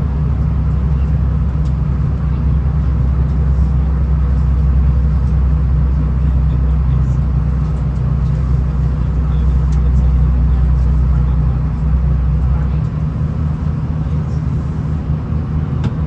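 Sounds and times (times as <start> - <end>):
diesel railcar engine drone: 0.0 - 16.0
track rumble: 0.0 - 16.0.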